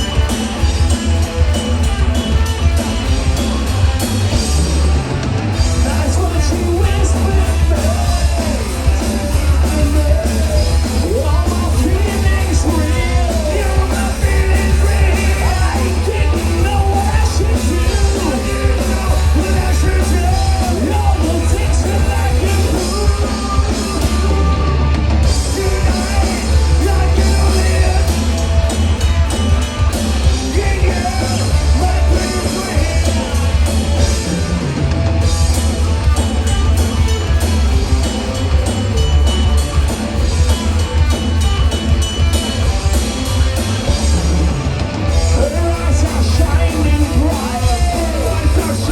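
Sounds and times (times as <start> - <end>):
live rock band: 0.0 - 48.9.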